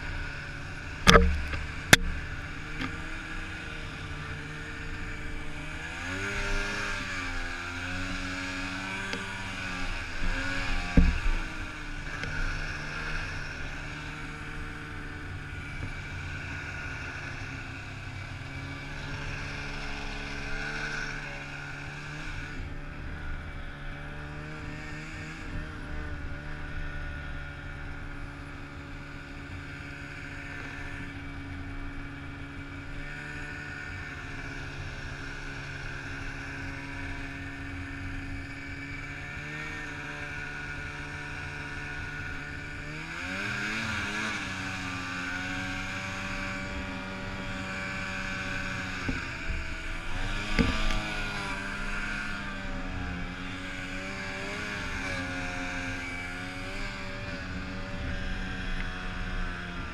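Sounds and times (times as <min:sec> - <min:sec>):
snowmobile engine under throttle: 0:00.0 - 0:59.9.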